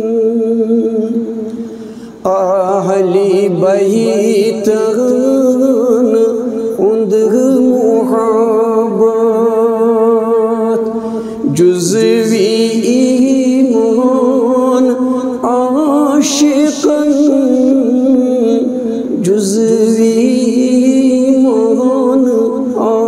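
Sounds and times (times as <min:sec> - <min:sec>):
man singing long held notes: 0:00.0 - 0:23.0.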